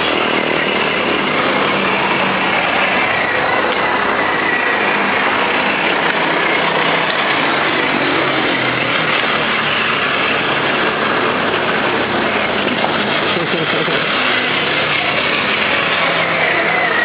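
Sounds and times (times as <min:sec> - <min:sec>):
toy motorcycle motor whirring: 0:00.0 - 0:17.0.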